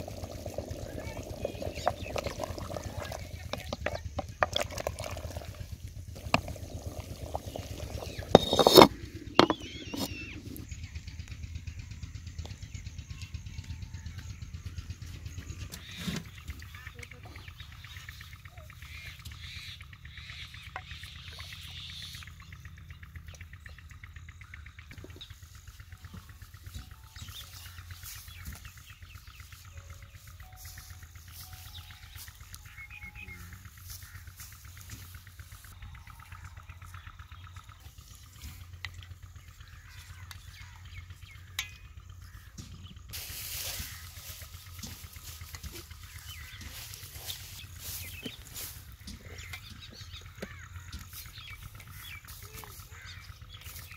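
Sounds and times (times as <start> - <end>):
birds chirping: 0.0 - 53.9
steady low hum: 0.0 - 53.9.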